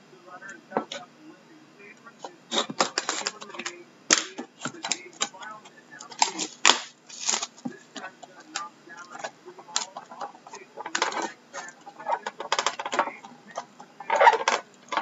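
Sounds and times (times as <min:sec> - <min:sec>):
wrapping rustling: 0:02.2 - 0:15.0.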